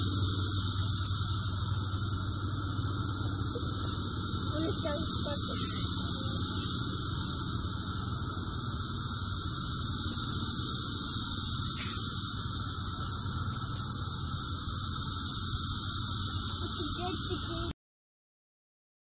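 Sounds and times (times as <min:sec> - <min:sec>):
cicadas buzzing: 0:00.0 - 0:17.8.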